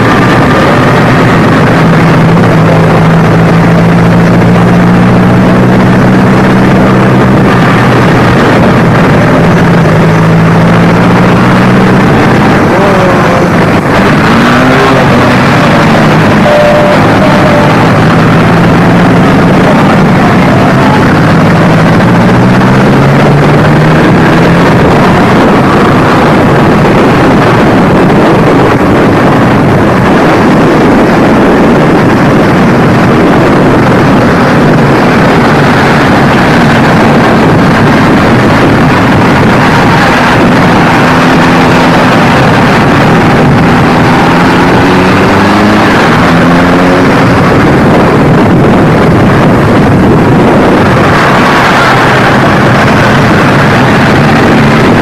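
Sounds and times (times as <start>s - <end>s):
motorcycle engines running: 0.0s - 55.0s
wind rushing over microphone: 0.0s - 55.0s.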